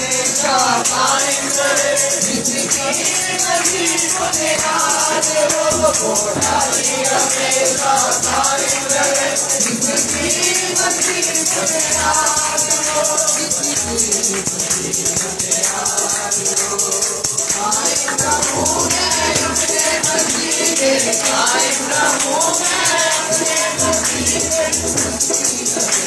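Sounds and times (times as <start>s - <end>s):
congregation clapping: 0.0s - 26.0s
rattling percussion beat: 0.0s - 26.0s
woman singing through loudspeaker: 0.0s - 26.0s.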